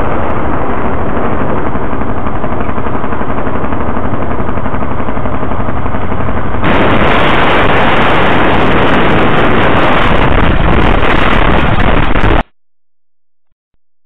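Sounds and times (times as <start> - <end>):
wind buffeting microphone: 0.0 - 12.4
motorcycle engine and road noise: 0.0 - 12.5.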